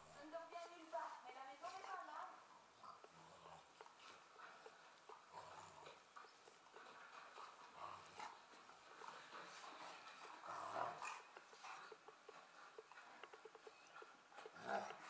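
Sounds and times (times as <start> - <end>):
faint dog sounds: 0.0 - 15.0.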